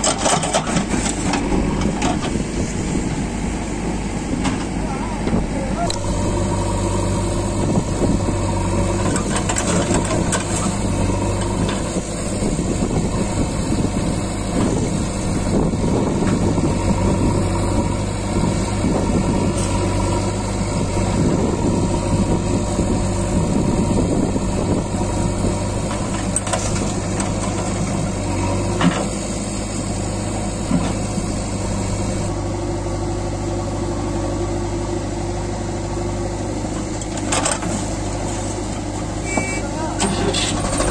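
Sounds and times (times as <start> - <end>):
diesel engines idling: 0.0 - 40.9.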